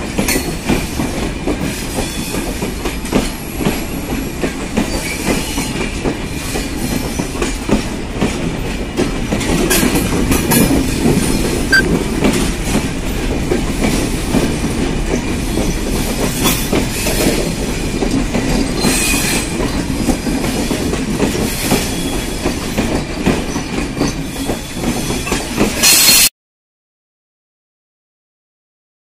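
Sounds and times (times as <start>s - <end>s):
train wheels rumbling on rails: 0.0s - 26.3s
wheels clacking over rail joints: 0.0s - 26.3s.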